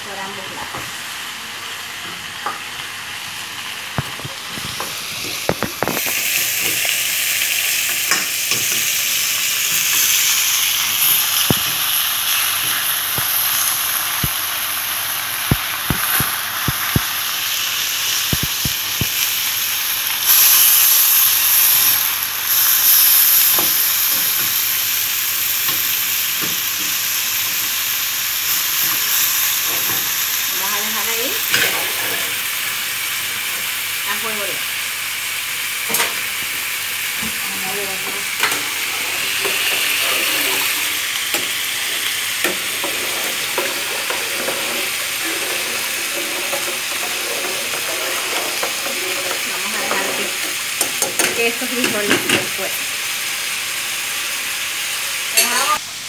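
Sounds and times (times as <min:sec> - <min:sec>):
pork sizzling in skillet: 0:00.0 - 0:56.0.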